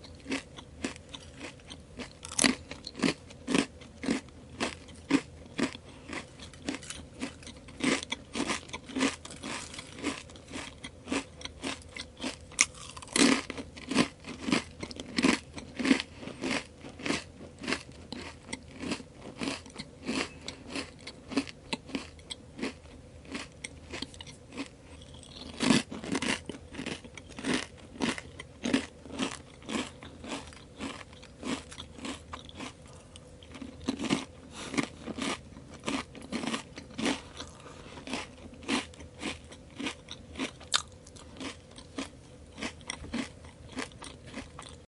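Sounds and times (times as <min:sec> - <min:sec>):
chips being chewed: 0:00.0 - 0:44.8.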